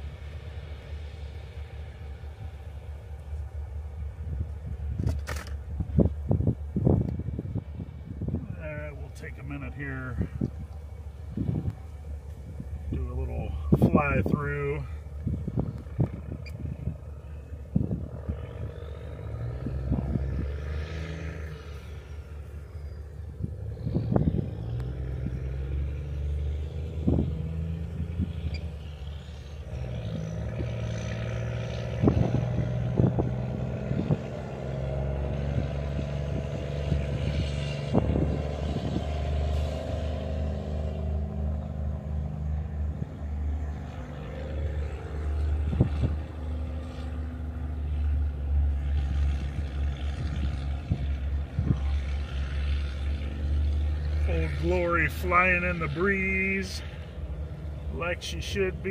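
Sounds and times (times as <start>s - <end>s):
low mechanical drone: 0.0s - 58.9s.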